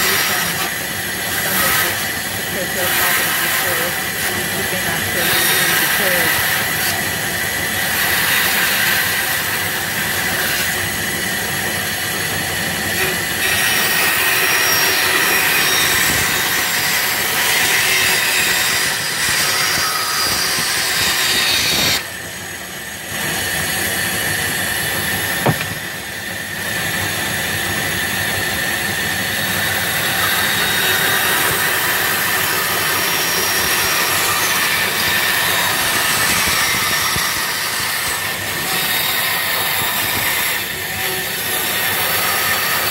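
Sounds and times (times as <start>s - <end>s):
bandsaw cutting wood: 0.0s - 42.9s.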